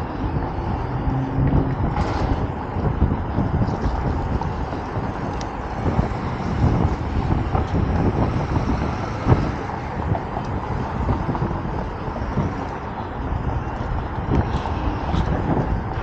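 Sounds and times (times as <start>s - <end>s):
road and traffic noise: 0.0s - 16.0s
wind rumbling on microphone: 0.0s - 16.0s.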